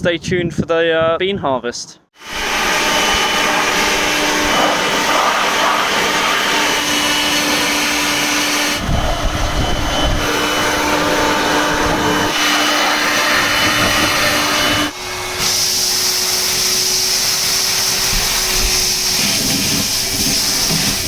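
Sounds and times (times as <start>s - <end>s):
vacuum cleaner running: 2.2s - 21.0s.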